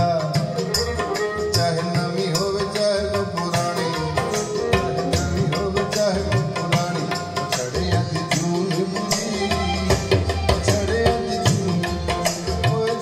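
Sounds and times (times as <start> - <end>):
music with pitch-bending drums: 0.0 - 13.0.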